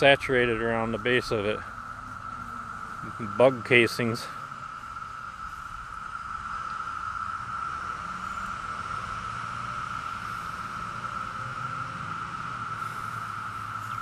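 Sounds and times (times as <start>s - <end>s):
cicadas chorusing: 0.0s - 14.0s.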